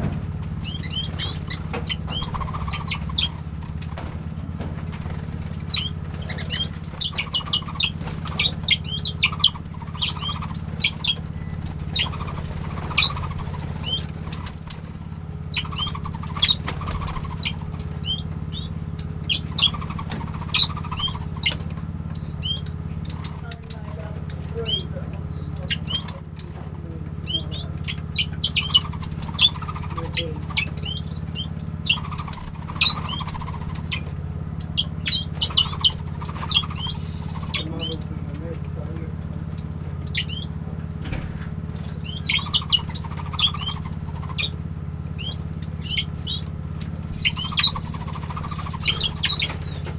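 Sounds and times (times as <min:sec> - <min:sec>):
small birds chirping: 0:00.0 - 0:49.9
steady low hum: 0:00.0 - 0:49.9.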